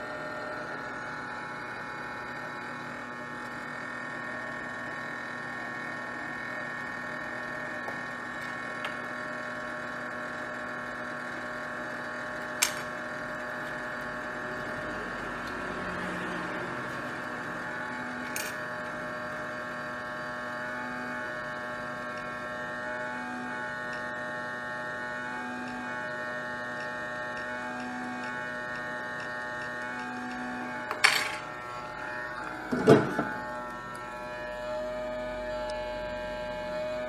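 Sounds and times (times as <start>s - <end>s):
hot air blower whine: 0.0s - 37.0s.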